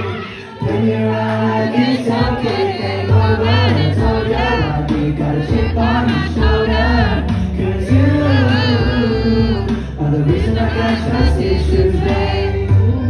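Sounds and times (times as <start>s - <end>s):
man singing into microphone: 0.0s - 13.0s
music with bass line: 0.0s - 13.0s.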